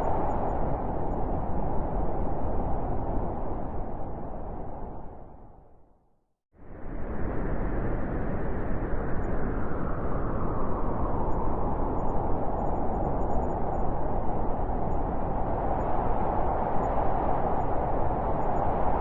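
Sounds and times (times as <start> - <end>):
blizzard wind howling: 0.0 - 6.0, 6.6 - 19.0.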